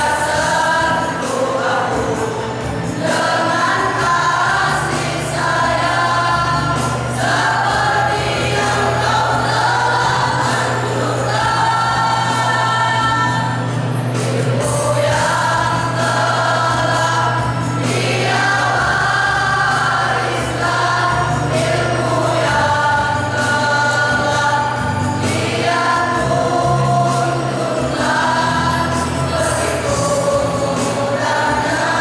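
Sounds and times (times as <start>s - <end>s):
male choir singing: 0.0s - 32.0s.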